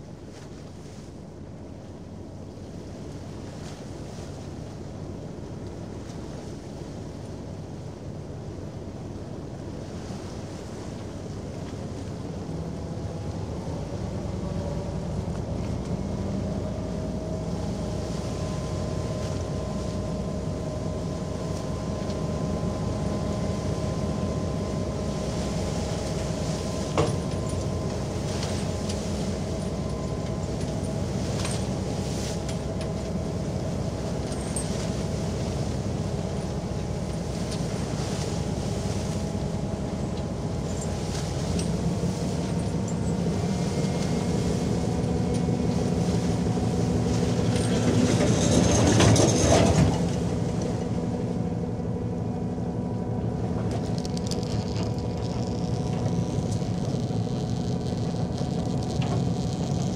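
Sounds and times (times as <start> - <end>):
faint whine: 0.0 - 59.9
winch machinery rumbling: 10.7 - 59.9.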